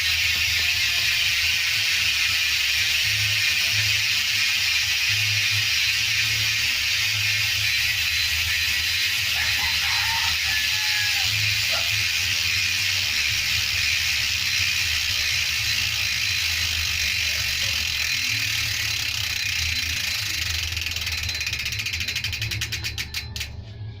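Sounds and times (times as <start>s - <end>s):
bicycle hub ratchet buzz: 0.0s - 23.6s.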